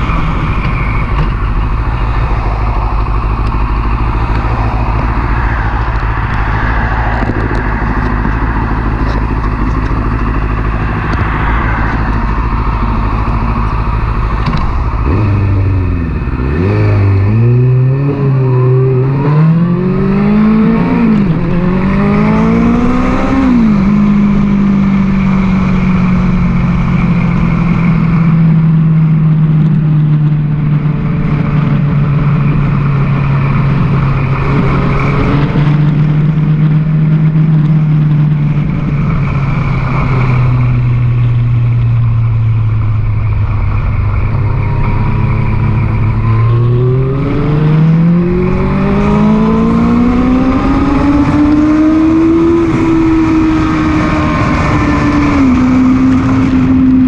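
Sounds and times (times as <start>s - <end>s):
motorcycle engine revving: 0.0s - 57.0s
wind noise on microphone: 0.0s - 57.0s.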